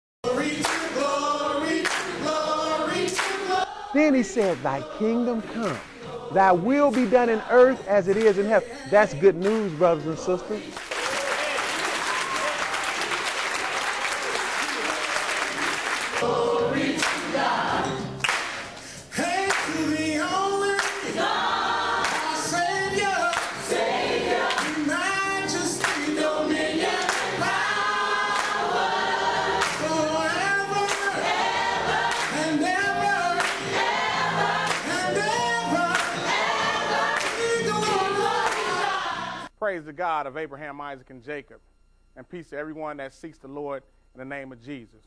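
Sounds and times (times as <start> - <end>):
gospel choir singing: 0.2 - 39.5.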